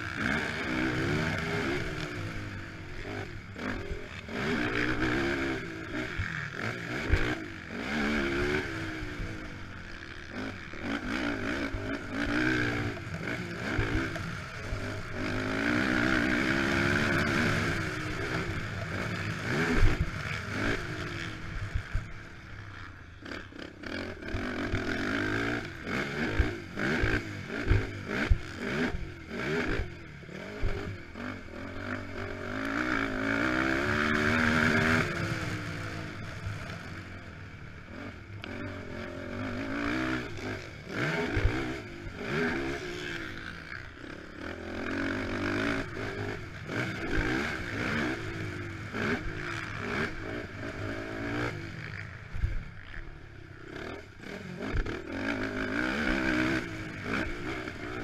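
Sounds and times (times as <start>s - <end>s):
quad engine revving: 0.0s - 22.1s, 23.2s - 37.1s, 37.8s - 58.0s.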